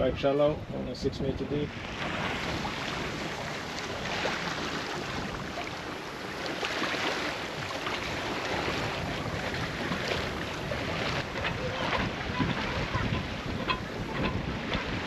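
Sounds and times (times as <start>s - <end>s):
water rushing along boat hull: 0.0s - 15.0s
wind buffeting microphone: 0.0s - 15.0s
water splashing against boat: 1.4s - 15.0s.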